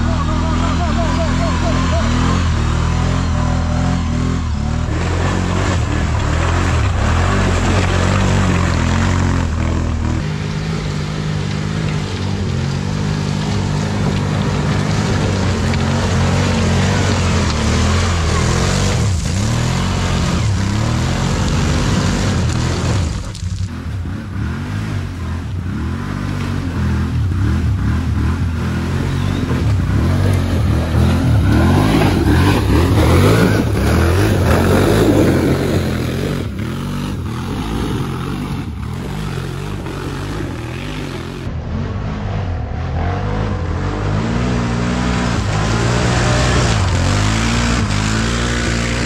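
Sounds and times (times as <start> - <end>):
atv engines revving: 0.0 - 49.0.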